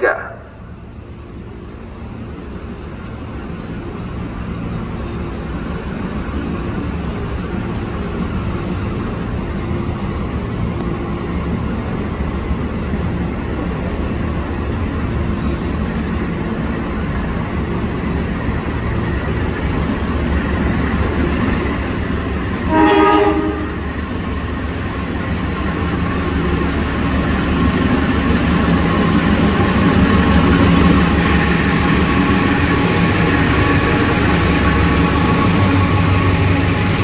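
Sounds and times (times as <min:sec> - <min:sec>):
locomotive engine hum: 0:00.0 - 0:37.0.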